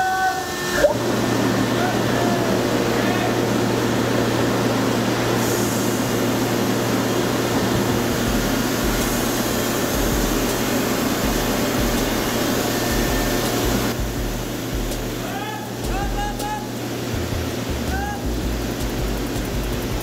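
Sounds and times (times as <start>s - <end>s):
winch machinery humming: 0.0s - 20.0s.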